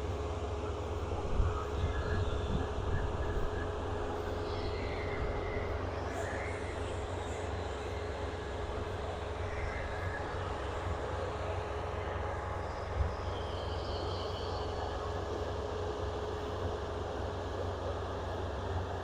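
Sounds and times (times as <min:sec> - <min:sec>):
combine harvester engine hum: 0:00.0 - 0:19.0
thin steady whine: 0:00.0 - 0:19.0.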